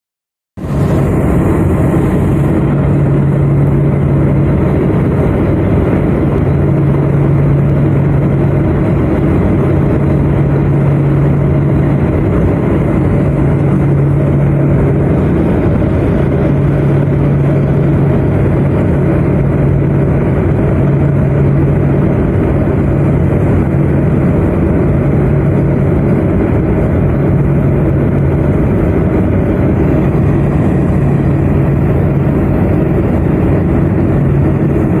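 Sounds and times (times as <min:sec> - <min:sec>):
turboprop engines droning: 0:00.6 - 0:35.0.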